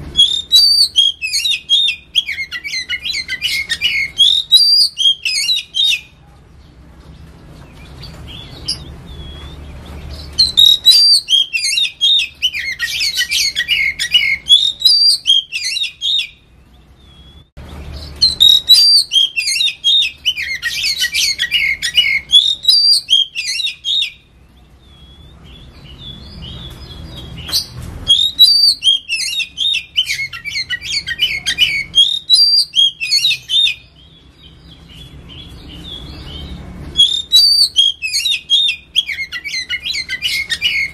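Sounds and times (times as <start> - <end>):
bird rapid chattering song: 0.0 - 40.9.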